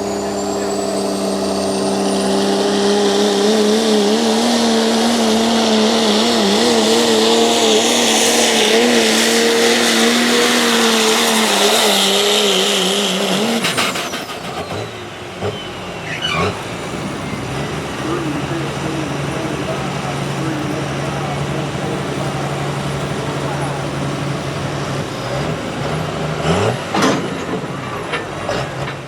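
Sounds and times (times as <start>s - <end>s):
engine running at high revs: 0.0s - 29.0s.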